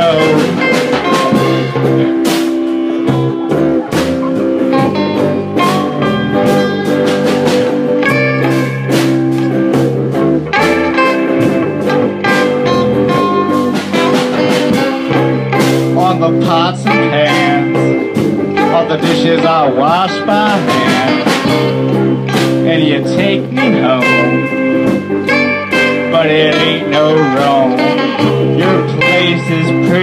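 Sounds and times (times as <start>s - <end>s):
blues rock guitar: 0.0s - 30.0s
steady drum beat: 0.0s - 30.0s.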